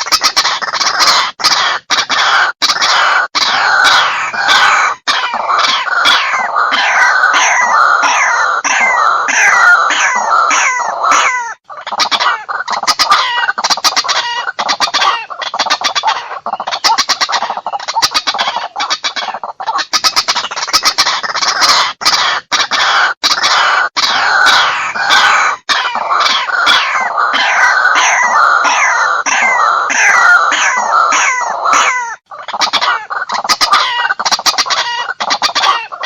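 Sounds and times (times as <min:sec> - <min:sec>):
waterhen calling: 0:00.0 - 0:36.0.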